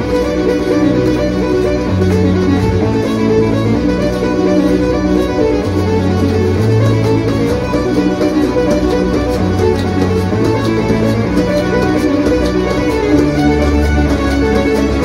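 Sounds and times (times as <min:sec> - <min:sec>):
instrumental music with bass line: 0:00.0 - 0:15.0.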